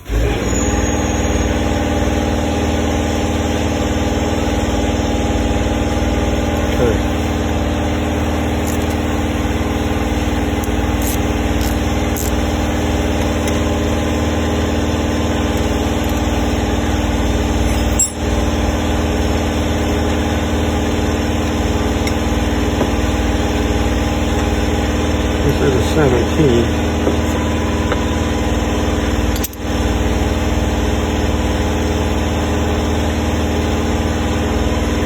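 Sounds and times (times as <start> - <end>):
steady motor hum: 0.0 - 35.0.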